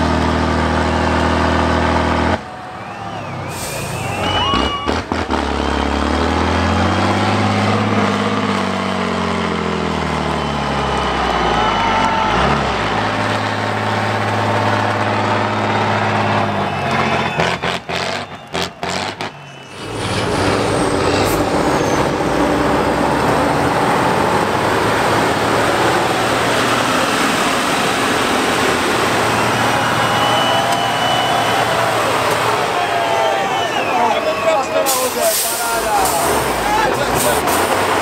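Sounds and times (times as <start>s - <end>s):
heavy diesel truck engines under load: 0.0s - 38.0s.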